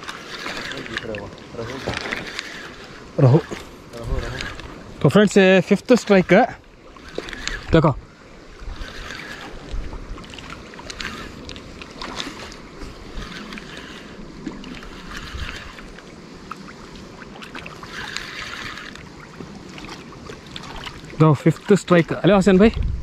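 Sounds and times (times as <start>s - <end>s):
fishing reel clicking: 0.0s - 22.8s
water moving: 0.0s - 23.0s.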